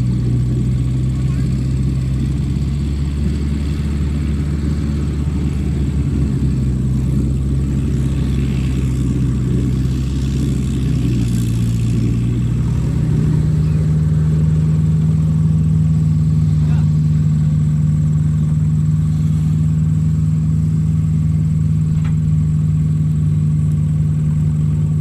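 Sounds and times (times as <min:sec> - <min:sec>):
diesel engines droning: 0:00.0 - 0:25.0.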